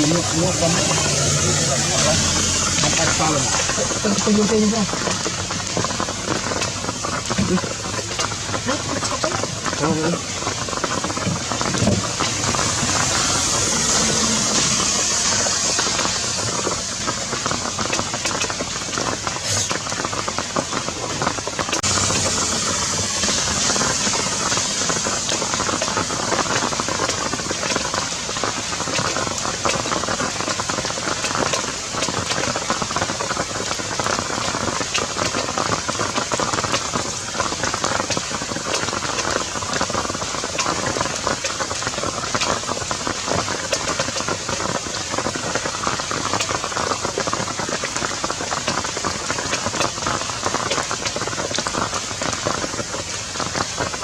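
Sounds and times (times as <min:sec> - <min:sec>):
heavy rain on a surface: 0:00.0 - 0:54.0.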